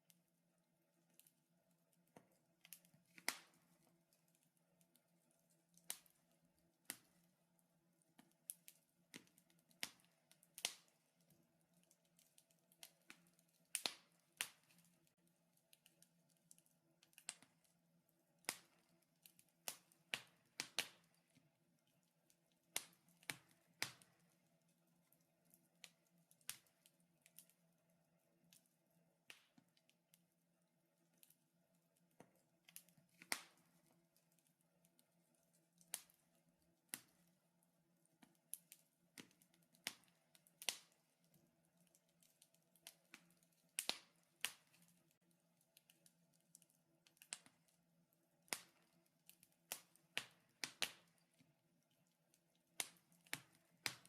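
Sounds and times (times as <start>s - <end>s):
wood fire crackling: 0.9s - 54.0s.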